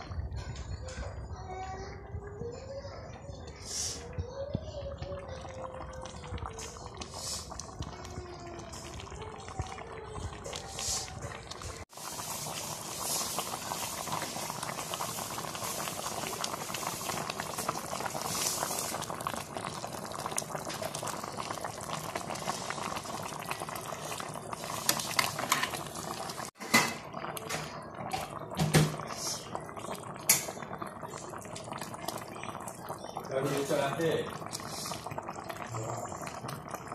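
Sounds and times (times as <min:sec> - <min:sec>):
gravy bubbling in a pan: 0:00.0 - 0:36.9.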